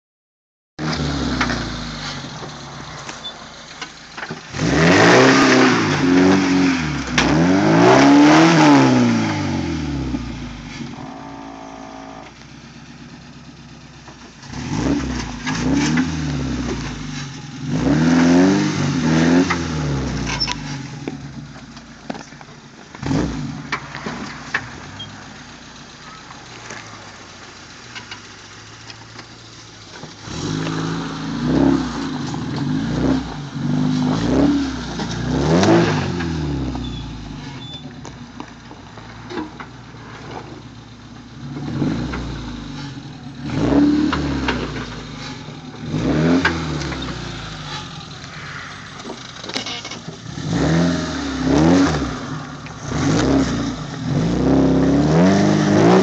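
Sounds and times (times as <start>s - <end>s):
car engine revving: 0.8s - 56.0s.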